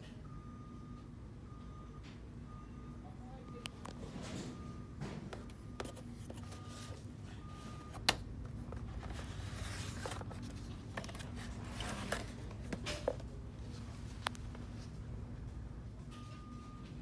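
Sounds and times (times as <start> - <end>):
store background hum: 0.0 - 17.0.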